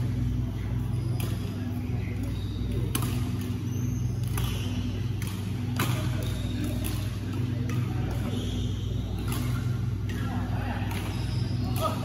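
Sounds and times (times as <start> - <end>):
rackets striking a shuttlecock: 0.0 - 12.0
steady low hum: 0.0 - 12.0.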